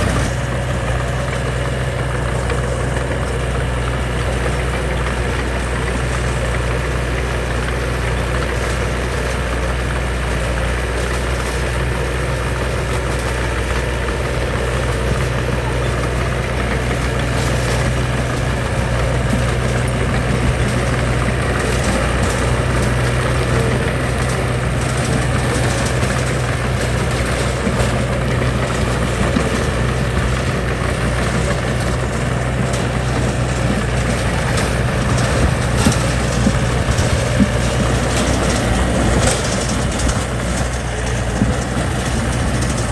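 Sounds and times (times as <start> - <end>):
heavy diesel engine droning: 0.0 - 42.9.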